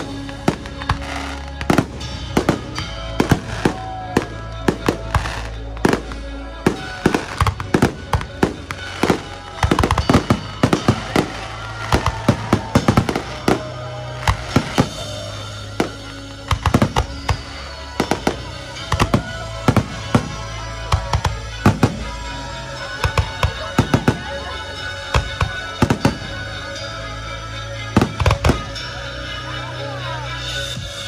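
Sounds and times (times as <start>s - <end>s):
fireworks bursting and crackling: 0.0s - 27.0s, 27.7s - 28.9s
music playing: 0.0s - 31.0s.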